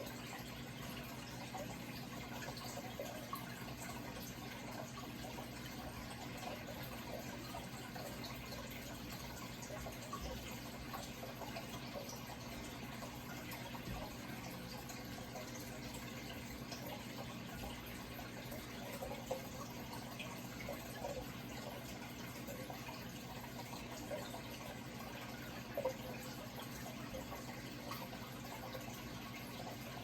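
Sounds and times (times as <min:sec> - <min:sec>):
water trickling and bubbling: 0:00.0 - 0:30.0.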